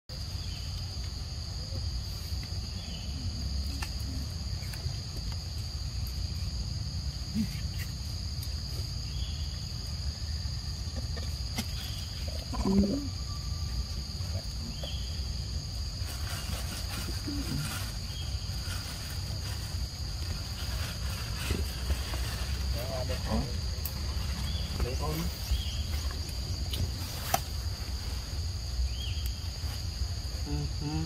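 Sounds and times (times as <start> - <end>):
insects droning: 0.1 - 31.0.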